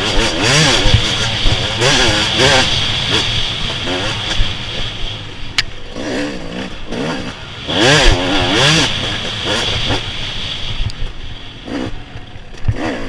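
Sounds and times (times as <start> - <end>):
small racing engine revving: 0.0 - 5.1, 5.8 - 11.0, 11.6 - 13.0
steady hiss: 0.0 - 12.5.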